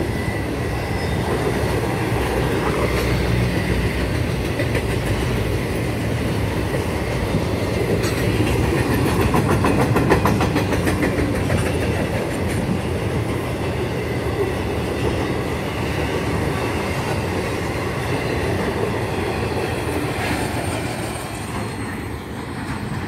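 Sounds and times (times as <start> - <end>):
freight train rumbling past: 0.0 - 23.0
wheels clacking over rail joints: 1.0 - 23.0.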